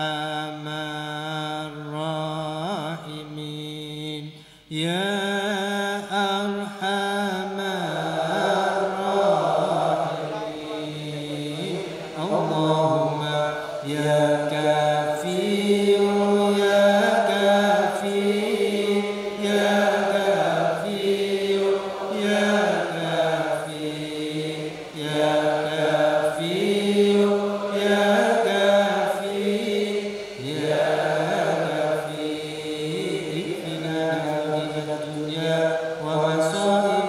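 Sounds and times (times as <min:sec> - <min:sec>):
men chanting: 0:00.0 - 0:37.0.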